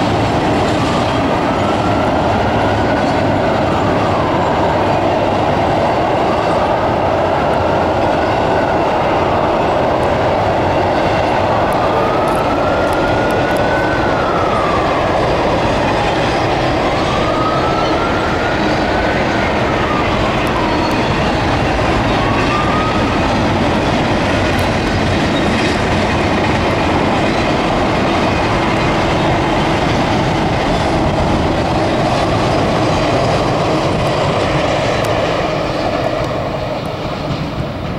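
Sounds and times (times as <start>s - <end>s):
train wheels rumbling on rail: 0.0s - 37.9s.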